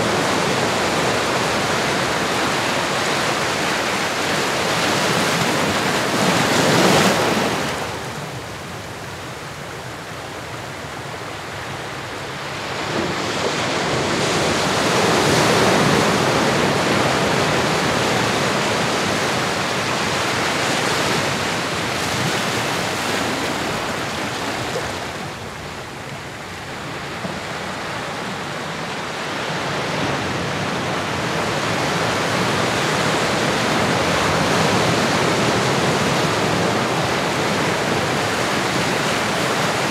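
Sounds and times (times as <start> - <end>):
ocean surf waves washing: 0.0 - 39.9.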